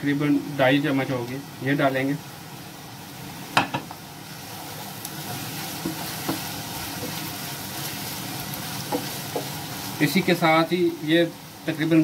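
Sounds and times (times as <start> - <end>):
carrots sizzling in hot oil: 0.0 - 12.0.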